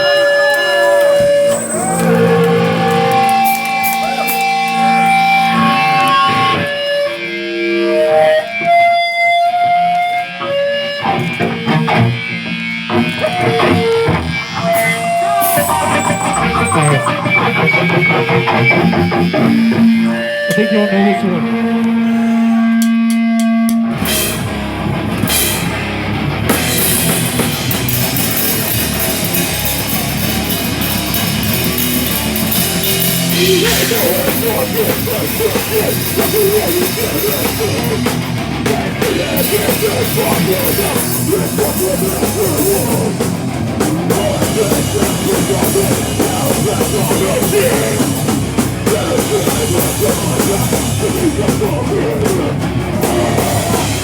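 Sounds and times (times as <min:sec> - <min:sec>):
heavy metal band playing: 0:00.0 - 0:54.0.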